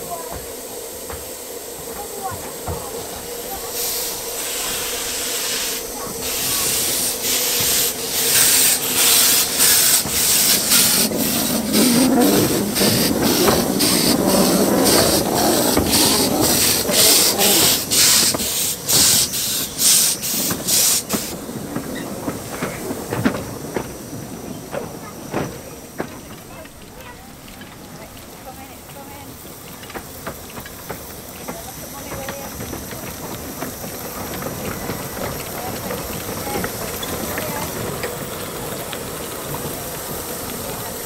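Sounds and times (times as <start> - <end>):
steam hissing: 0.0 - 41.0
steam locomotive chuffing: 0.0 - 41.0.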